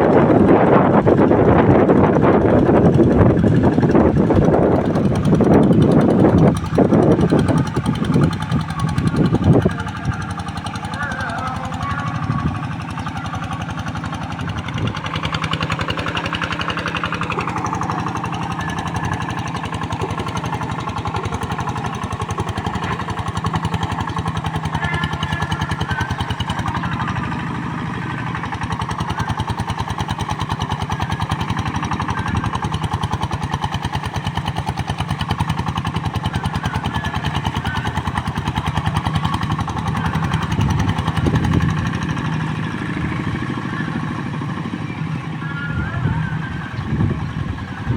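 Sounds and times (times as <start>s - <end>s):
hand tractor engine knocking: 0.0s - 47.9s.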